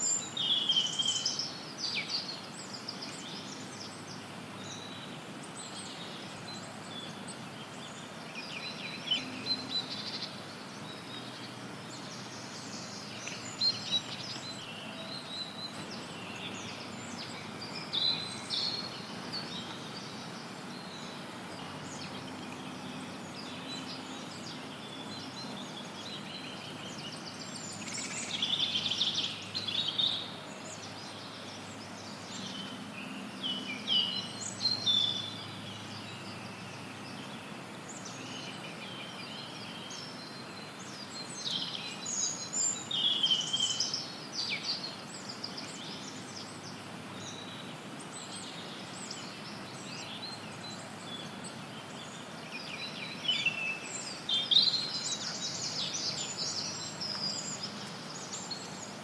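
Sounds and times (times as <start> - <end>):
songbirds chirping: 0.0 - 59.0
white noise hiss: 0.0 - 59.0.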